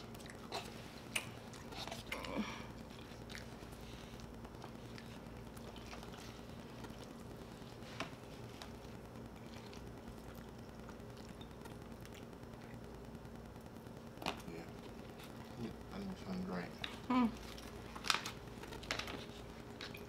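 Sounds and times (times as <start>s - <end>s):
chewing: 0.0s - 15.8s, 16.8s - 20.0s
steady low hum: 0.0s - 20.0s.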